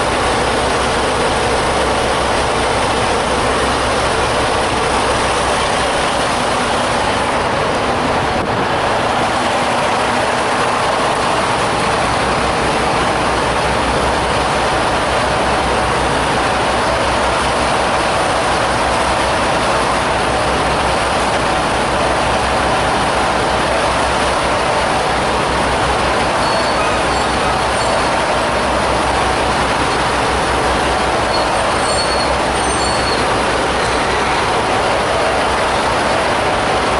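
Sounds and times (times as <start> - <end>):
diesel truck engine rumbling: 0.0 - 36.9.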